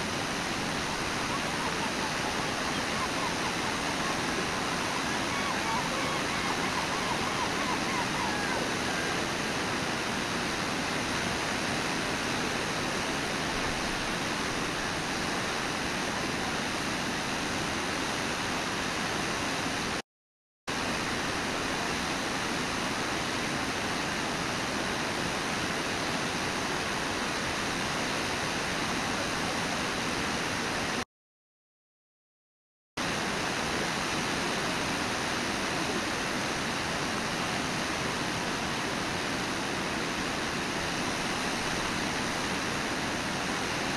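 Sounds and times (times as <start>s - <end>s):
river and waterfall roar: 0.0s - 20.0s, 20.7s - 31.0s, 33.0s - 43.9s.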